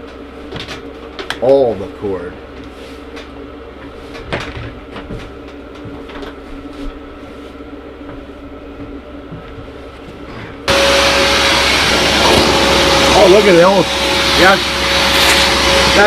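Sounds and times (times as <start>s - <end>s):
shop vacuum running: 0.0s - 16.0s.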